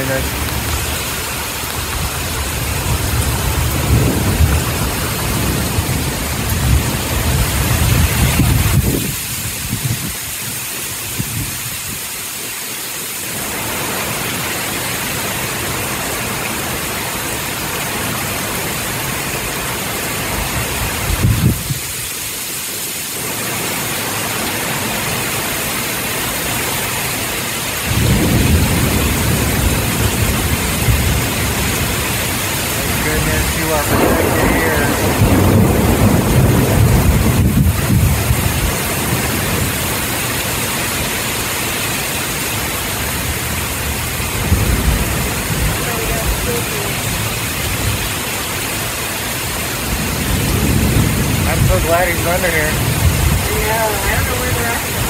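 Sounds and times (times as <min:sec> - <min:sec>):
torrential rain pouring: 0:00.0 - 0:55.0.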